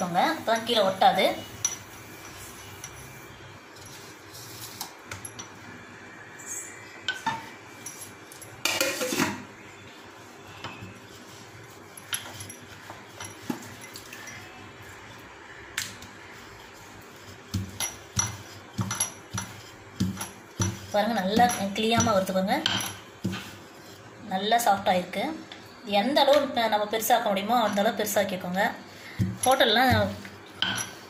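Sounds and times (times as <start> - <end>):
rolling pin rolling dough: 0.0 - 5.5, 9.6 - 25.4, 26.1 - 31.0.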